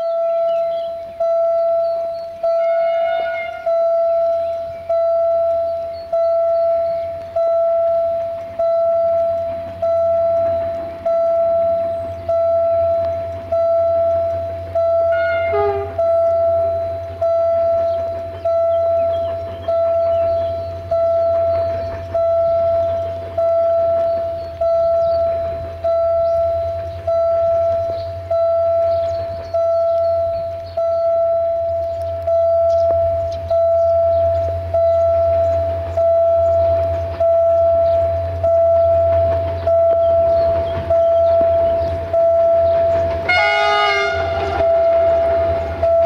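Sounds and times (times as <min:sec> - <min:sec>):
level-crossing warning bell ringing: 0:00.0 - 0:46.0
low steady hum: 0:00.0 - 0:46.0.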